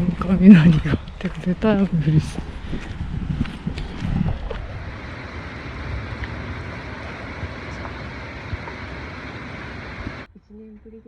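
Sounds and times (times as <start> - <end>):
motorcycle road noise: 0.0 - 10.3
wind rush: 0.0 - 10.3.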